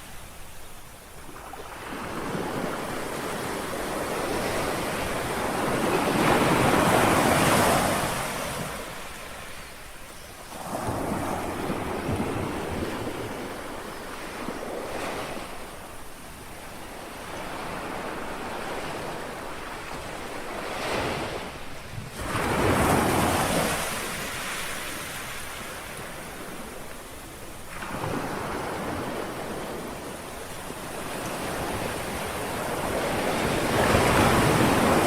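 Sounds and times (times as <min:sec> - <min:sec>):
sea waves lapping on shore: 0:00.0 - 0:35.0.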